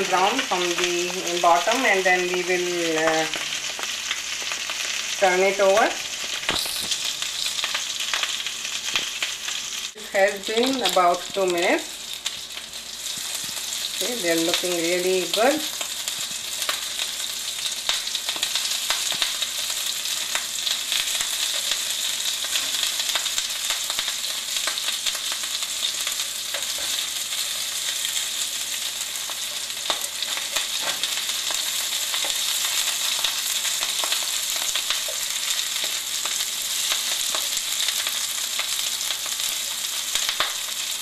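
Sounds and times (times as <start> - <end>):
patties sizzling in hot oil: 0.0 - 41.0.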